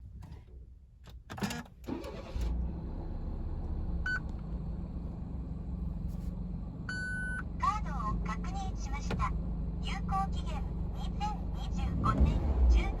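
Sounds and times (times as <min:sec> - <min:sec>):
car engine starting and idling: 0:01.0 - 0:13.0.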